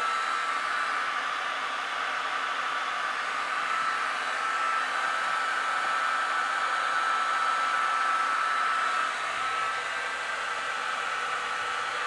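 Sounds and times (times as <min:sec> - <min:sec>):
hair dryer blowing with whine: 0:00.0 - 0:12.0.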